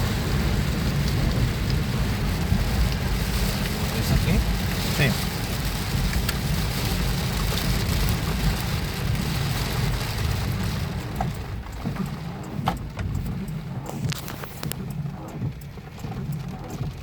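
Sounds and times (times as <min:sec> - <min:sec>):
low rumble: 0:00.0 - 0:17.0
rain drop impacts: 0:00.0 - 0:17.0
rain falling: 0:00.0 - 0:17.0.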